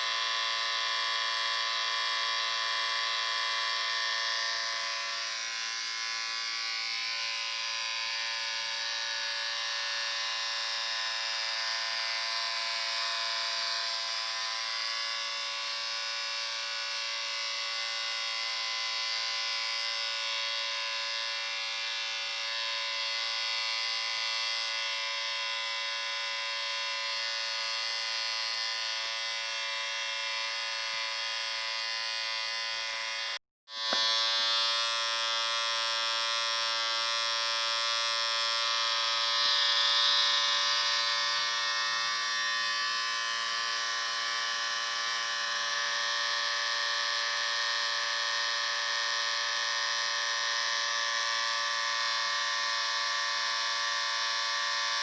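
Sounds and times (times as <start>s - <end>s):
electric shaver buzzing: 0.0s - 55.0s.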